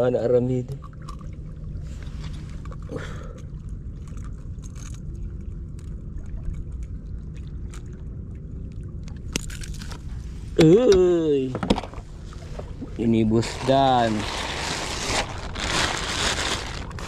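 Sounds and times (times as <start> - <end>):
wind and water rumble on microphone: 0.0 - 17.0.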